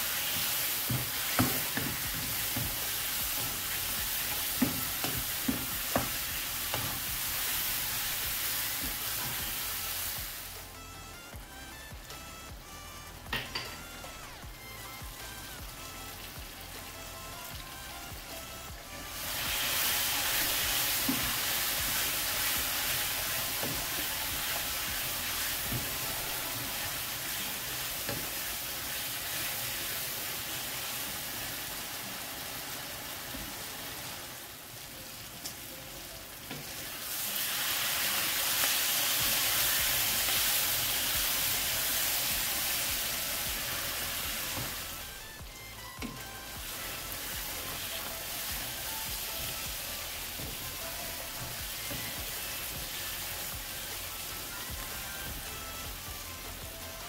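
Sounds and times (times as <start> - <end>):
sausages sizzling in a pan: 0.0 - 10.8, 11.5 - 57.0.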